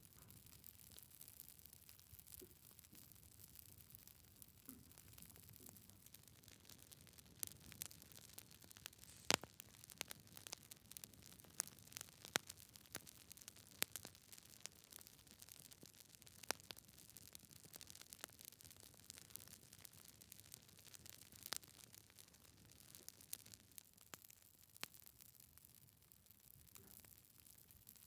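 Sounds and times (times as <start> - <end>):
faint steady hiss: 0.0 - 28.0
wood fire crackling: 0.0 - 28.0.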